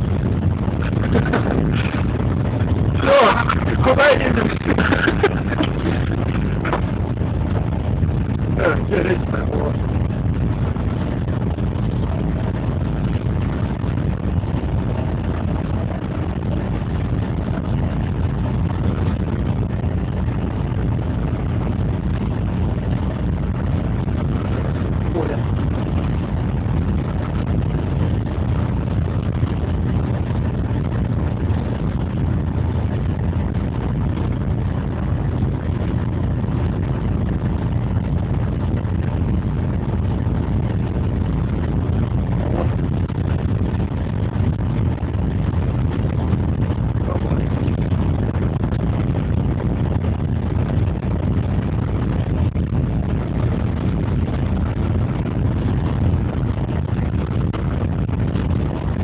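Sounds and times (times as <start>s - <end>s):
wheels running on track: 0.0s - 57.7s
diesel engine rumble: 0.0s - 59.0s.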